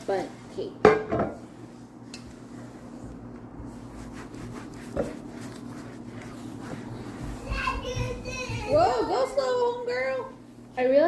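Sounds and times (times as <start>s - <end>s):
bowl and pan rubbing and scraping: 0.0s - 10.4s
steady low hum: 0.0s - 11.0s.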